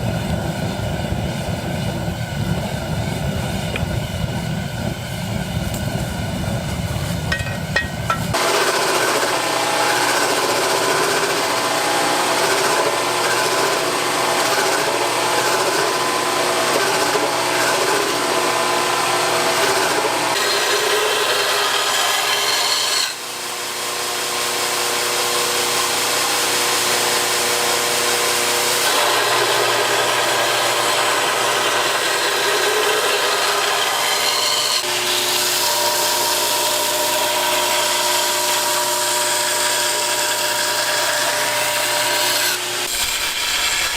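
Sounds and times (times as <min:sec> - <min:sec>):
power tool grinding: 0:07.2 - 0:43.9.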